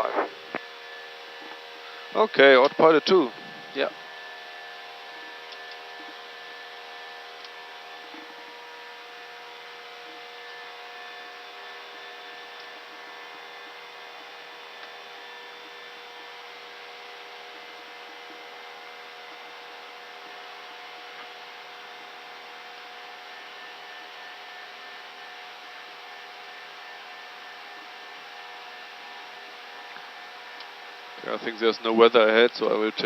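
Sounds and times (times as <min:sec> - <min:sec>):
cockpit hum and hiss: 0:00.0 - 0:33.0.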